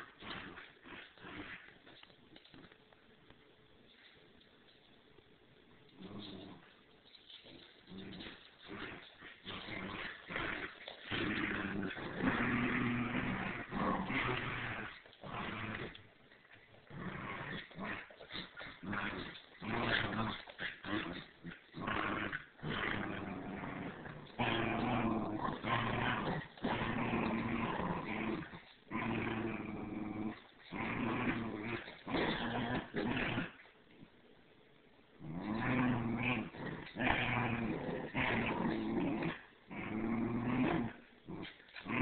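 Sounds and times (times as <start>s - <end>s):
dogs growling in play: 0.0s - 2.8s, 5.9s - 34.1s, 35.2s - 42.0s.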